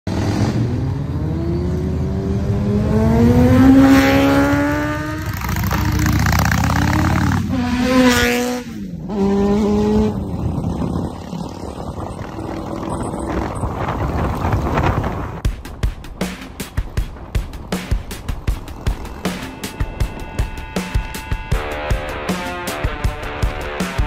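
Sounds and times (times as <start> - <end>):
vehicle engine accelerating: 0.1 - 15.4, 17.6 - 24.0.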